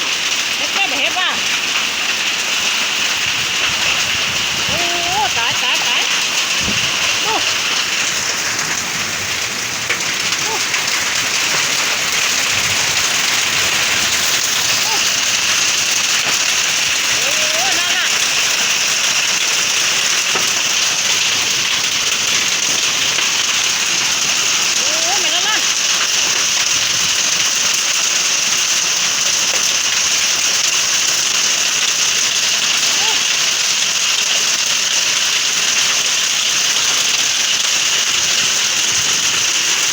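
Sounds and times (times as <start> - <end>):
hail and rain pelting down: 0.0 - 39.9.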